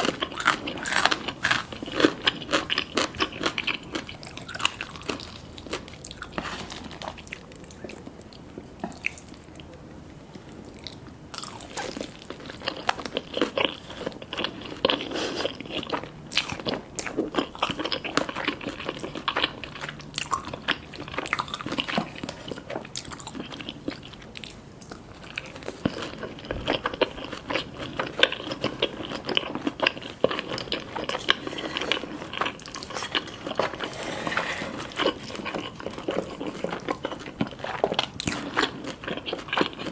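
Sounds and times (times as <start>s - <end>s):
crunching and chewing crispy food: 0.0s - 9.8s, 10.5s - 39.9s.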